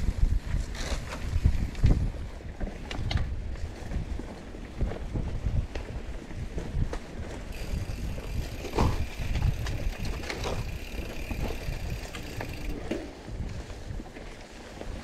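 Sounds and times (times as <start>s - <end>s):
bike tyre and wind rumble: 0.0s - 15.0s
bike knocks and rattles: 0.1s - 13.7s.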